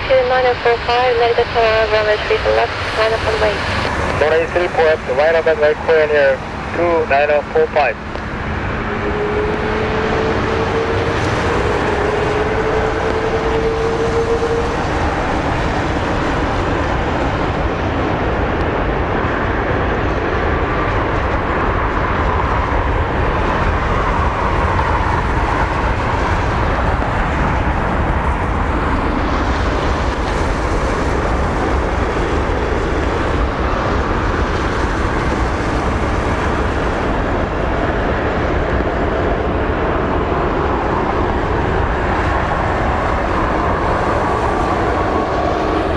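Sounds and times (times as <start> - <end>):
faint engine whine: 0.0 - 45.9
jet engines roaring: 0.0 - 45.9.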